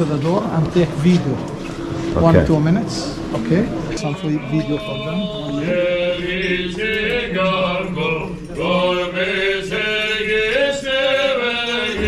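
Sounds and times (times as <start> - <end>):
men chanting: 2.1 - 12.0.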